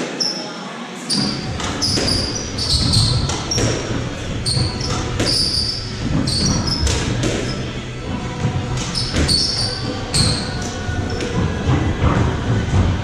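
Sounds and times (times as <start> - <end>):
squash ball hits: 1.1 - 7.8, 8.4 - 13.0
shoes squeaking on wooden floor: 1.1 - 12.9.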